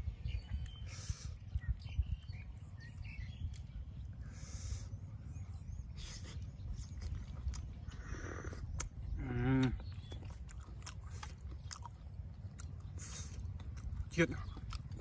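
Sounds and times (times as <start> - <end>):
birds chirping faintly: 0.0 - 15.0
wind rumble on microphone: 0.0 - 15.0.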